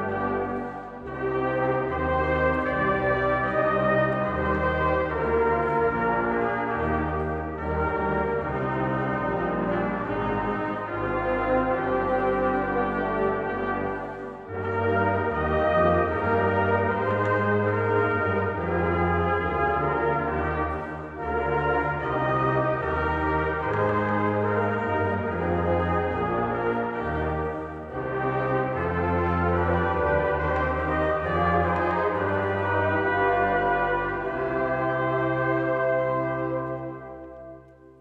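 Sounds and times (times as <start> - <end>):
brass choir playing chords: 0.0 - 38.0.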